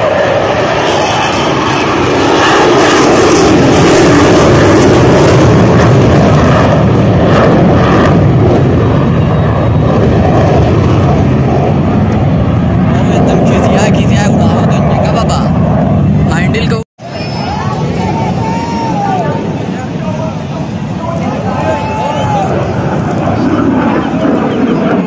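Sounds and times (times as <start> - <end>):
fighter jet passing overhead: 0.0 - 25.0.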